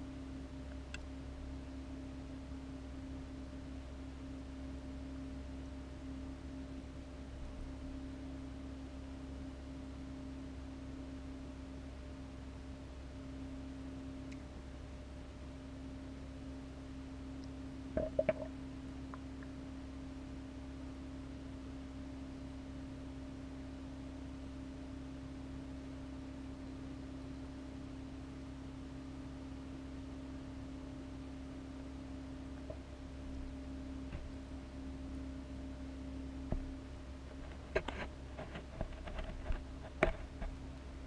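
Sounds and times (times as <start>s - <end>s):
aquarium equipment humming: 0.0s - 41.0s.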